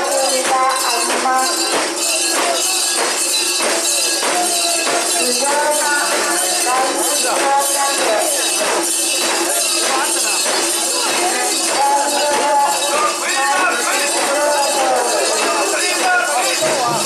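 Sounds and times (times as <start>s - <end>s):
crowd chanting and singing: 0.0s - 17.0s
metal ornaments jingling: 0.0s - 17.0s.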